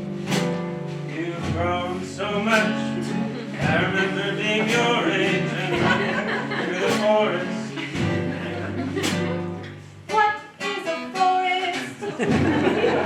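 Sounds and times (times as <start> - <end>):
acoustic guitar strumming: 0.0 - 13.0
person singing: 1.1 - 9.4, 10.0 - 12.4.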